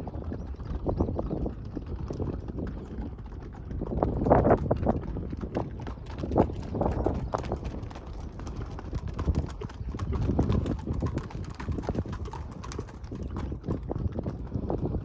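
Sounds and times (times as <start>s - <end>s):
horse hooves clip-clopping on stones: 0.0s - 15.0s.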